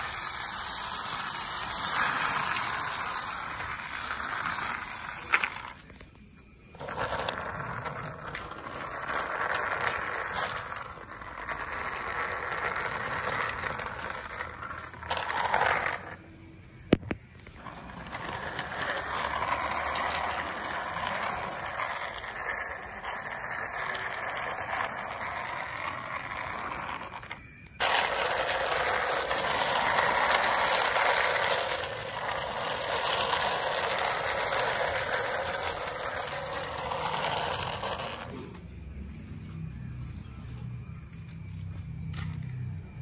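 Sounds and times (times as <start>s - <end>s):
toy wheels whirring rattle: 0.0s - 43.0s.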